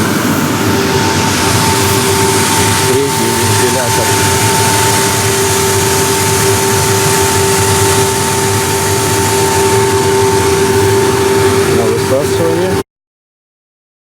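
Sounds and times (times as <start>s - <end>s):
aeration fans blowing air: 0.0s - 12.8s.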